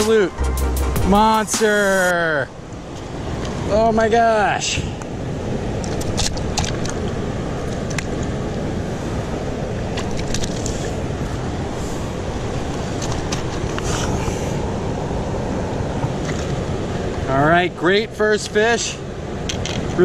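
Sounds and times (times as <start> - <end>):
river flowing: 0.0 - 20.0.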